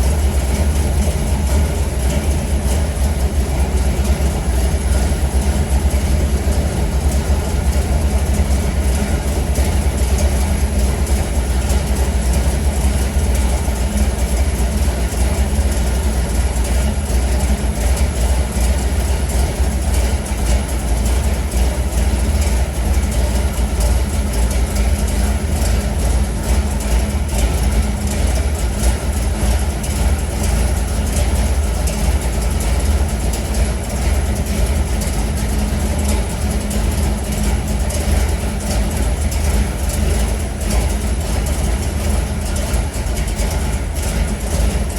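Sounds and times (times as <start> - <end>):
truck engine rumbling: 0.0 - 44.9.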